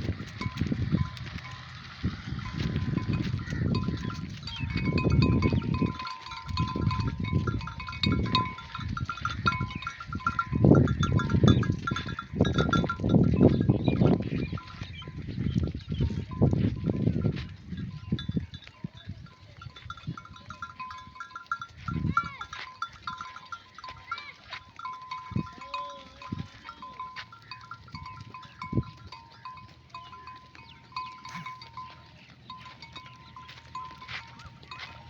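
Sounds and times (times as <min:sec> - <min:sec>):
sheep bells clinking: 0:00.0 - 0:35.0.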